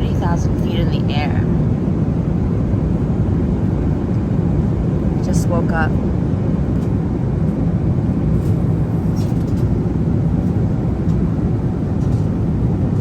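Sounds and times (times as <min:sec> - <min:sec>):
jet engine and airflow hum: 0:00.0 - 0:13.0.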